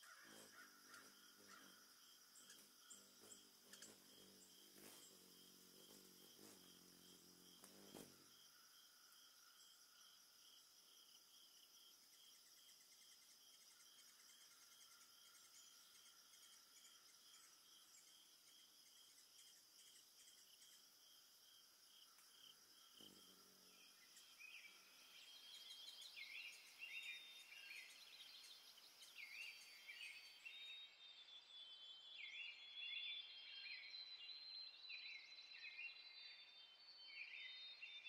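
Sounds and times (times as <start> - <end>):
faint high-pitched chirping: 0.0 - 38.0.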